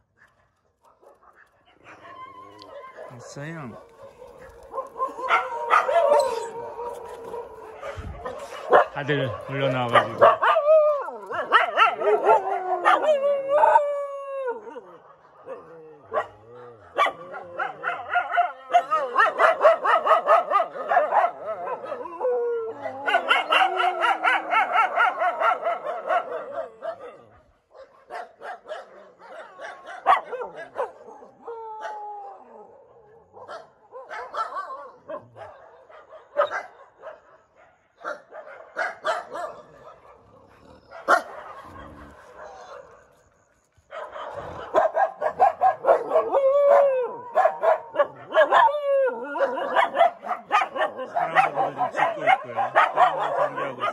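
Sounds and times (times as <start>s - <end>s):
dogs barking: 0.0s - 53.9s
dogs howling: 0.8s - 53.9s.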